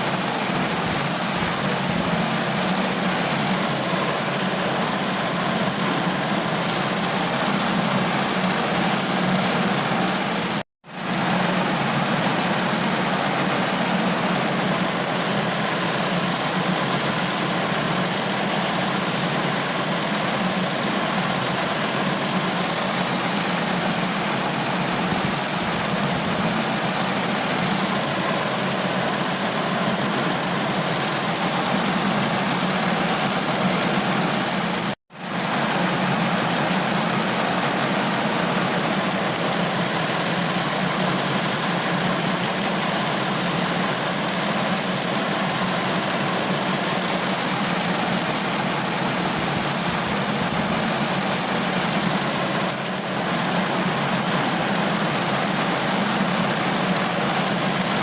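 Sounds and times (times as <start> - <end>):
rain on a car roof: 0.0 - 58.0.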